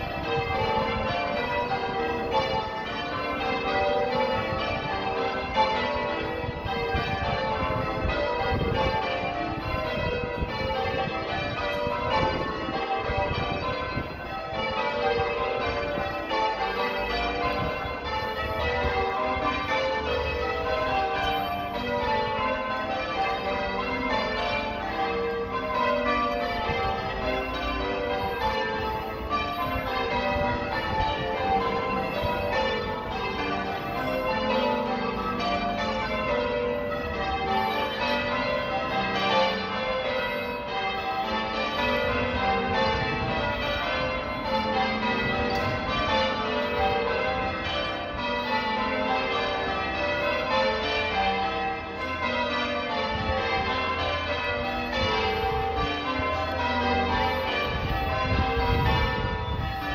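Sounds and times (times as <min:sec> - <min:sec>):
church tower bells ringing: 0:00.0 - 0:59.9.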